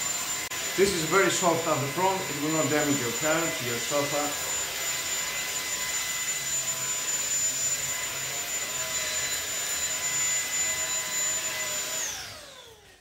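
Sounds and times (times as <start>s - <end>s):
vacuum brush on fabric cushion: 0.0s - 12.9s
stick vacuum motor whining: 0.0s - 13.0s.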